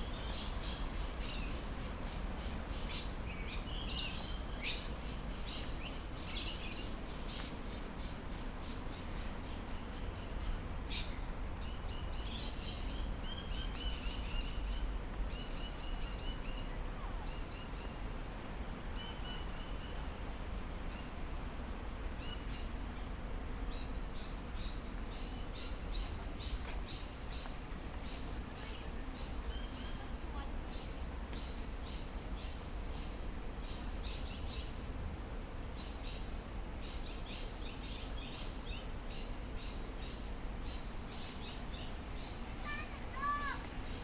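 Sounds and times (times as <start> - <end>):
small birds chirping: 0.0 - 18.0, 23.7 - 34.8, 35.8 - 44.0
steady high hiss: 0.0 - 44.0.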